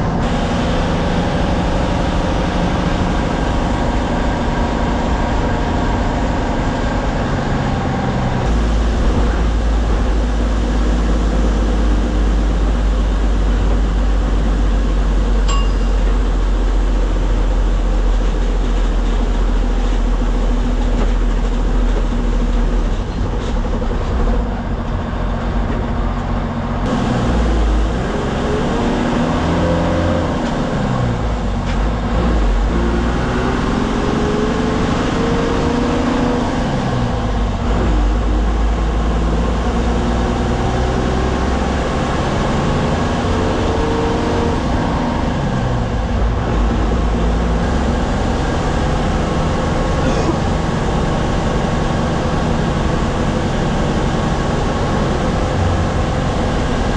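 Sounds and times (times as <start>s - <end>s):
diesel bus engine: 0.0s - 56.9s
road noise: 0.0s - 56.9s.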